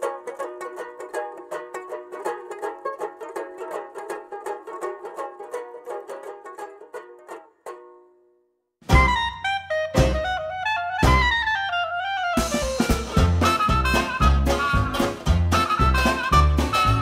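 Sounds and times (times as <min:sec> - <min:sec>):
banjo-like picked string melody: 0:00.0 - 0:17.0.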